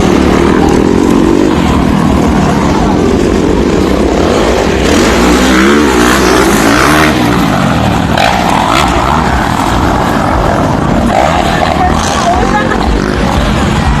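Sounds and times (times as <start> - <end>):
dirt bikes revving: 0.0 - 14.0.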